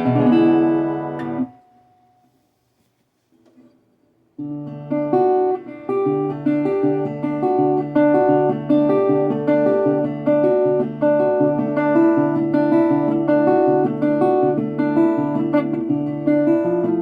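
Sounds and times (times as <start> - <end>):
resonator guitar picked notes: 0.0 - 2.3, 4.4 - 17.0.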